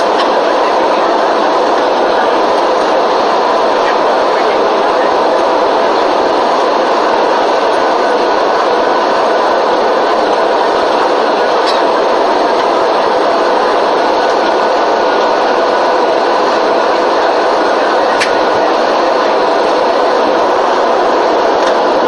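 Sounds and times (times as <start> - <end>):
airliner cabin noise: 0.0 - 22.0.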